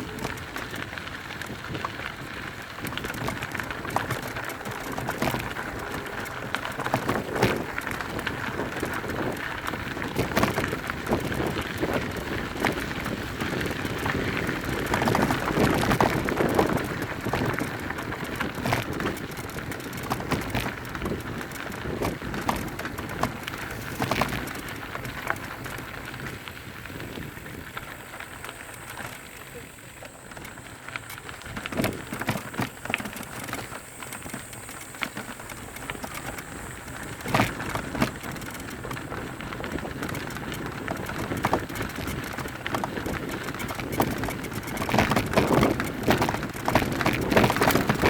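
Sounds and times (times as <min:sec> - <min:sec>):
bike knocks and rattles: 0:00.0 - 0:48.0
tyres crunching over loose ground: 0:00.0 - 0:48.0.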